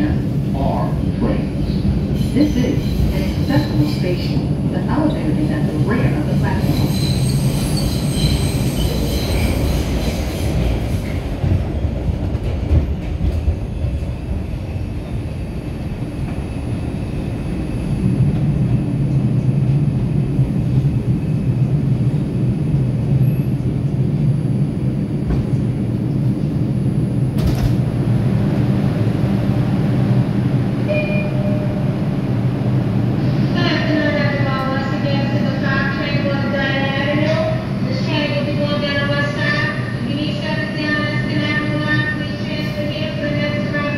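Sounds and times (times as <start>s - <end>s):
subway car rumbling on rails: 0.0s - 43.9s.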